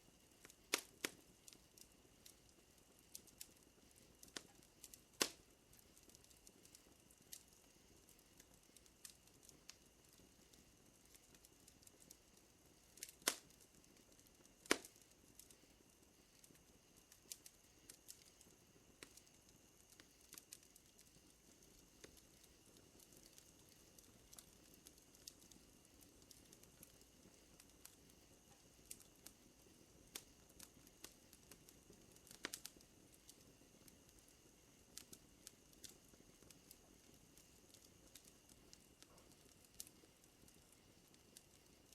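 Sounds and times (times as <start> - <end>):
wood fire crackling: 0.0 - 41.9
fire pops: 0.1 - 41.9.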